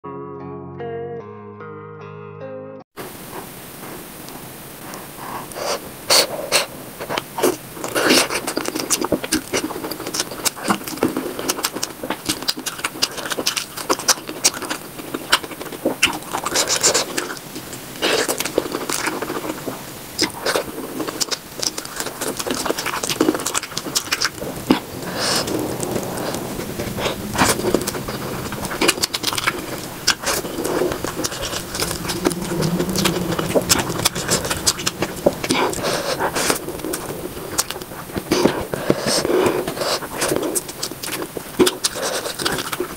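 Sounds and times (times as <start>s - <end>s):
wet chewing and lip smacking: 3.3s - 42.9s.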